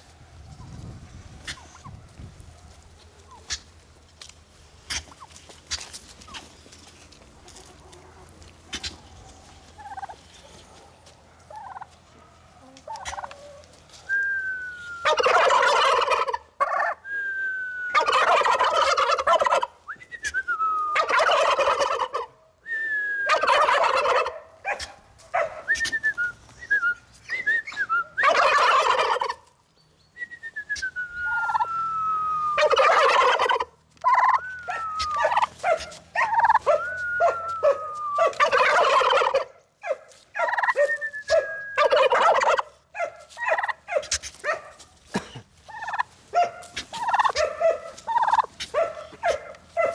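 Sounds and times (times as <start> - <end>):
turkey gobbling: 1.3 - 2.0, 2.6 - 6.5, 7.4 - 13.8, 14.4 - 17.0, 17.7 - 22.4, 23.2 - 26.4, 27.2 - 29.6, 30.7 - 44.4, 45.6 - 49.9.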